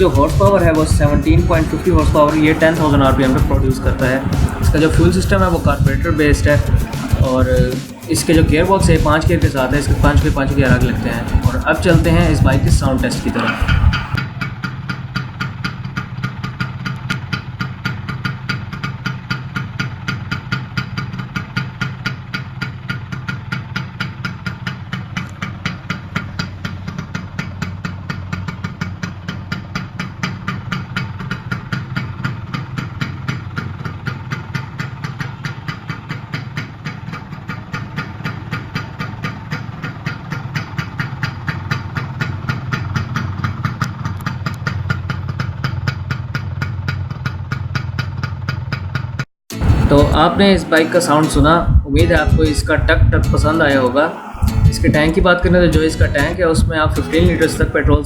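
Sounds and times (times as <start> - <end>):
two-stroke engine idling: 0.0 - 51.5, 52.2 - 58.0.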